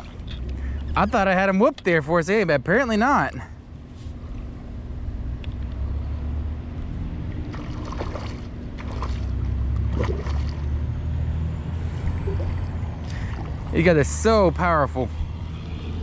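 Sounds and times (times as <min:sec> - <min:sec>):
machinery low drone: 0:00.0 - 0:16.0.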